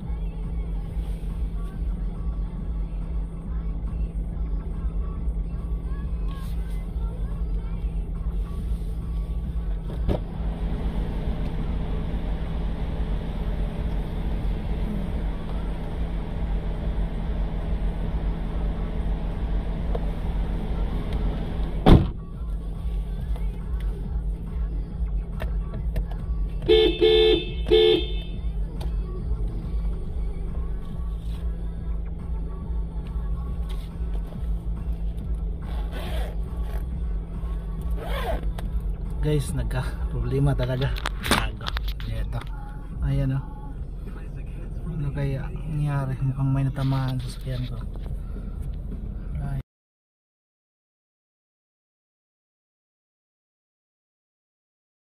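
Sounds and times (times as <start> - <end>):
car engine idling: 0.0 - 49.6.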